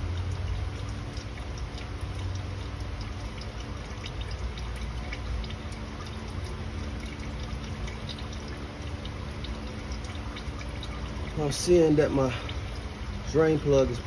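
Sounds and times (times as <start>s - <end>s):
oil dripping: 0.0s - 14.0s
oil trickling into pan: 0.0s - 14.0s.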